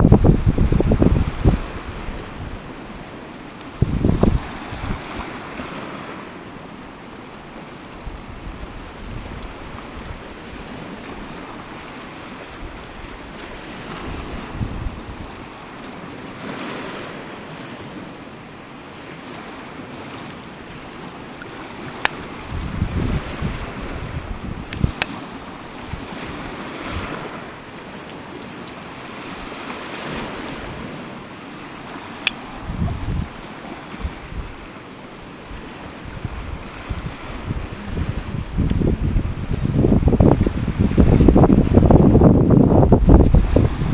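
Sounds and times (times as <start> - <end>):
wind gusting on microphone: 0.0 - 18.2, 19.0 - 43.9
waves on pebble shore: 0.0 - 43.9.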